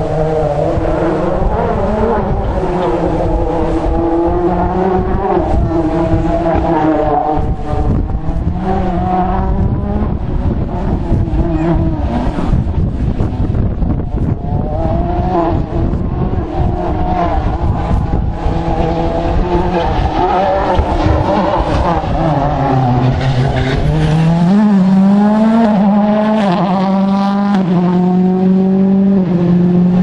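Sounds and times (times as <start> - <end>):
rally car engine revving past: 0.0 - 12.8, 14.3 - 30.0.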